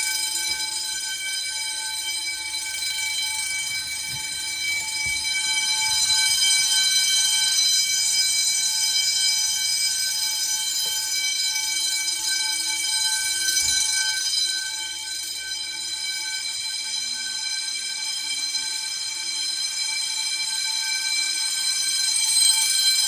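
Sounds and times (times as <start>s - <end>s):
fire alarm bells ringing: 0.0s - 23.0s.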